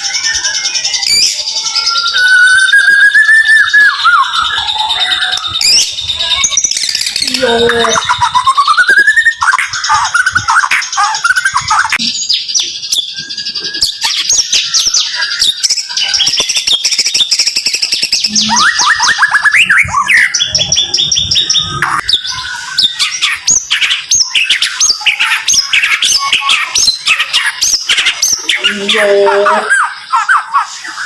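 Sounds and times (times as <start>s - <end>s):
bird singing rapid chirps: 0.0s - 31.0s.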